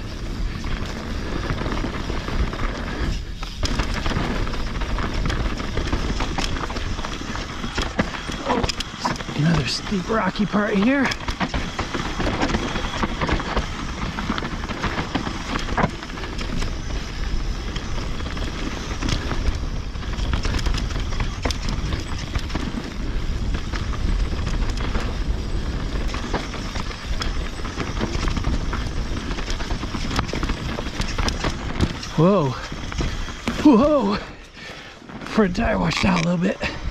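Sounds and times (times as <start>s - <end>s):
bike rattling over rocks: 0.0s - 36.9s
bike tyres crunching over stones: 0.0s - 36.9s.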